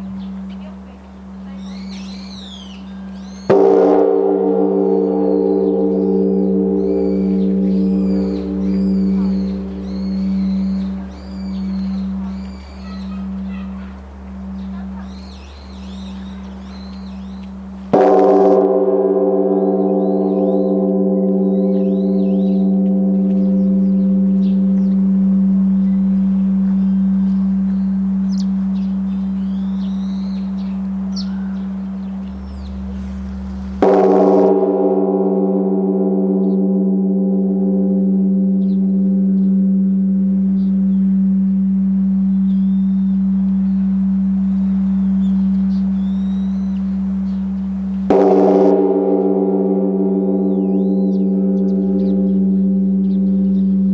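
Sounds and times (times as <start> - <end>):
birds chirping faintly: 0.0 - 3.8, 4.5 - 18.0, 19.6 - 33.9, 36.3 - 48.2, 50.0 - 53.9
large temple bell struck: 0.0 - 53.9.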